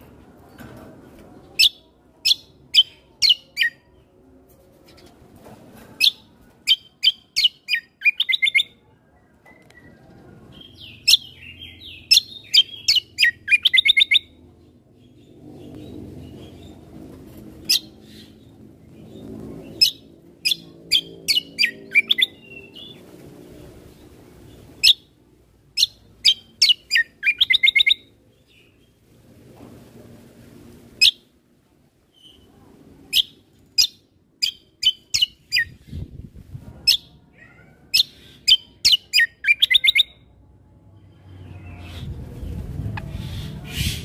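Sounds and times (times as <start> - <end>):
faint low background murmur: 0.0 - 44.0
songbird chirping: 0.5 - 5.3, 5.9 - 29.2, 32.0 - 36.0, 37.9 - 44.0.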